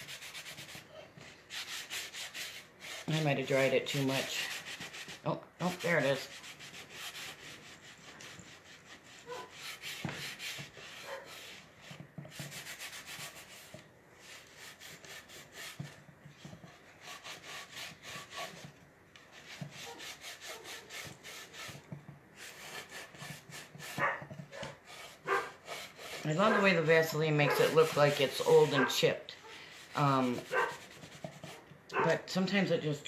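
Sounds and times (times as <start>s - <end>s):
sanding block scraping wood: 0.0s - 32.6s.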